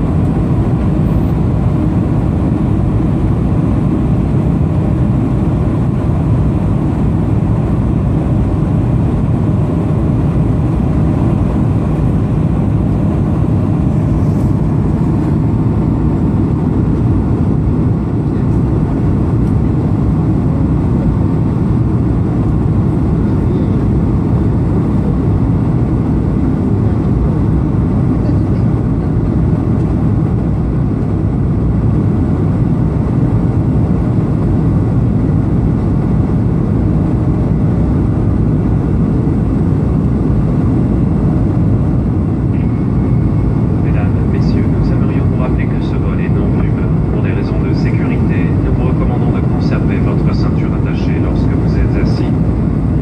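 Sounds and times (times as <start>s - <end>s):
airliner cabin noise: 0.0s - 53.0s.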